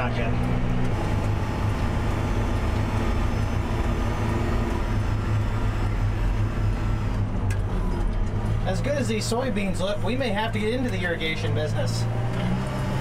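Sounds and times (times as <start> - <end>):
diesel engine hum from cab: 0.0 - 13.0.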